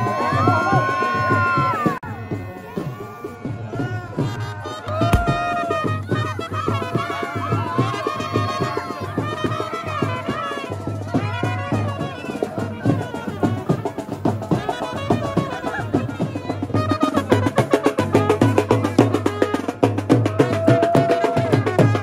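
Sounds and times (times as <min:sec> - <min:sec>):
drums beating steady rhythm: 0:01.3 - 0:22.0.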